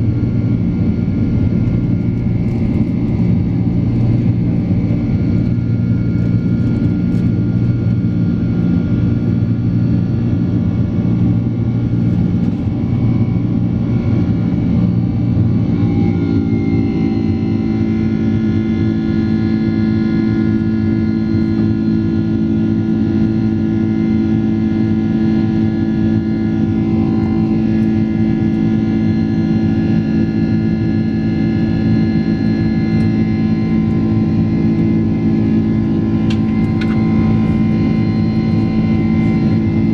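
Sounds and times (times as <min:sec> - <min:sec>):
jet engine noise in cabin: 0:00.0 - 0:39.9.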